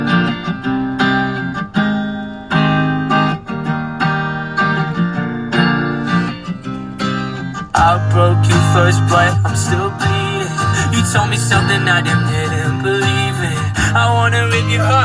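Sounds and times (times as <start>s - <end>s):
guitar chords strummed: 0.0s - 15.0s.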